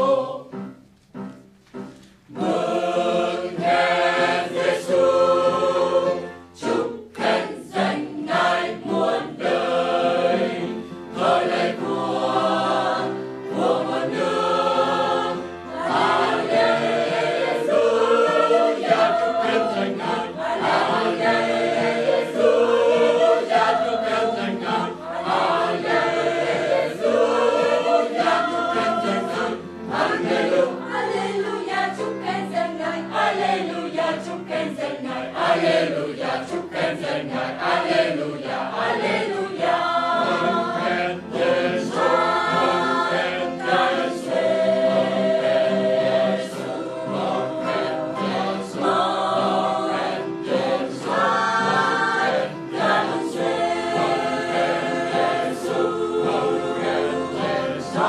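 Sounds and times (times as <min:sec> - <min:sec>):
mixed choir singing: 0:00.0 - 0:00.7, 0:02.3 - 0:58.0.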